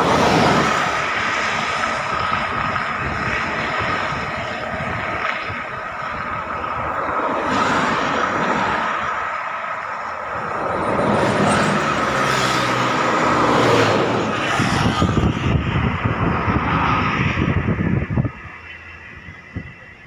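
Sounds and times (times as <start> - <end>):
roadside traffic noise: 0.0 - 20.0
vehicle engine passing close: 0.0 - 20.0.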